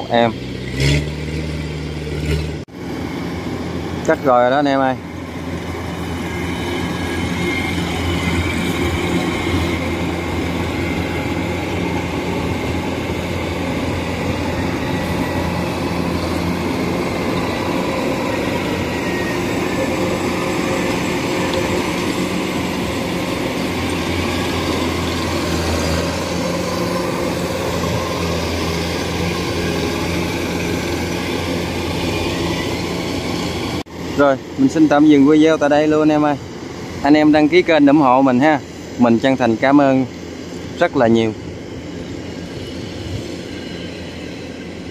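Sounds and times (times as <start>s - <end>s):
combine harvester engine hum: 0.0s - 44.9s.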